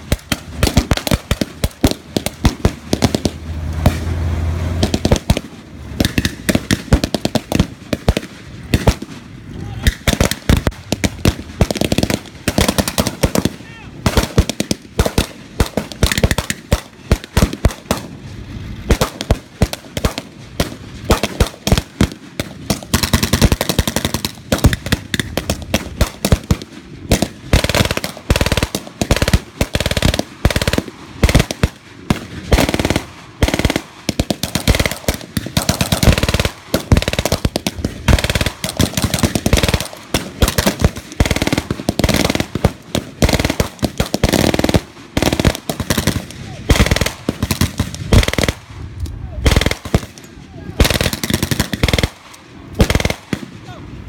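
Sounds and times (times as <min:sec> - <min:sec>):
rifle and machine gun fire: 0:00.0 - 0:48.8, 0:49.4 - 0:50.2, 0:50.8 - 0:53.8.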